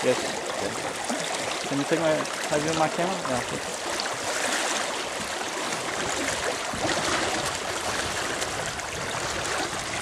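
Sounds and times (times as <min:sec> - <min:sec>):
river current rushing: 0:00.0 - 0:10.0.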